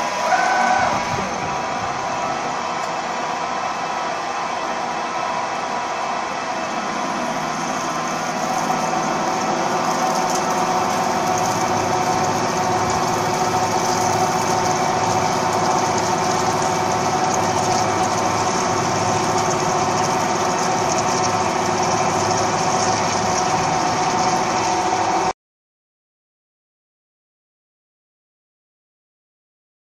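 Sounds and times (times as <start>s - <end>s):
drilling machine spindle whine: 0.0s - 25.3s.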